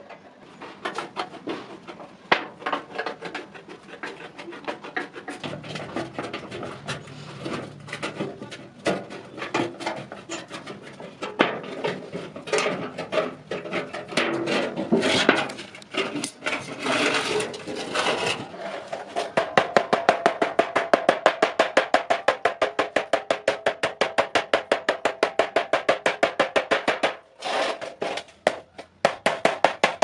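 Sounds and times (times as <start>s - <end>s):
metal scraping: 0.0s - 22.4s, 26.8s - 30.0s.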